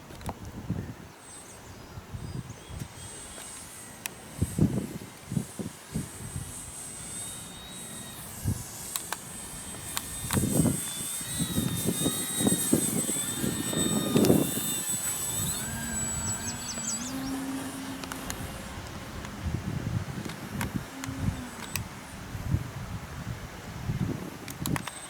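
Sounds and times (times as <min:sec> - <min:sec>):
model plane motor whining: 0:00.1 - 0:25.0
wind buffeting microphone: 0:01.7 - 0:25.0.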